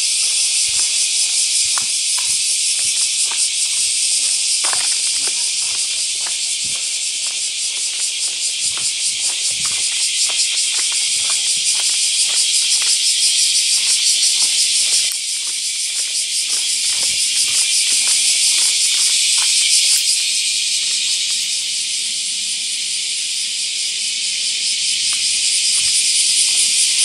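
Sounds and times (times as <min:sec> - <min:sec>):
faint footsteps on pavement: 0:00.0 - 0:22.8, 0:24.8 - 0:27.0
insects shrilling: 0:00.0 - 0:27.0.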